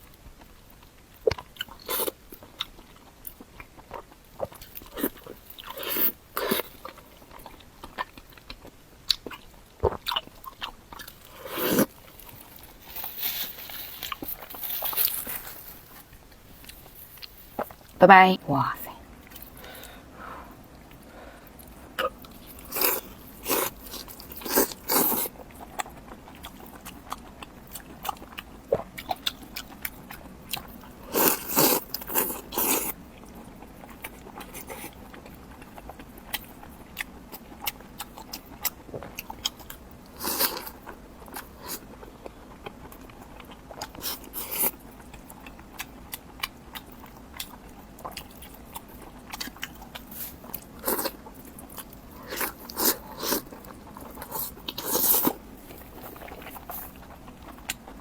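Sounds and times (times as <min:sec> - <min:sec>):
person chewing crunchy food: 0:00.0 - 0:18.0, 0:19.0 - 0:58.0.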